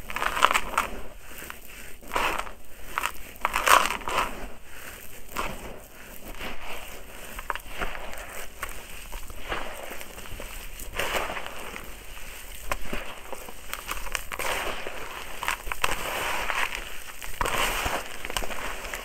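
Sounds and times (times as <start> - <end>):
hands crunching gritty soil: 0.0 - 19.0.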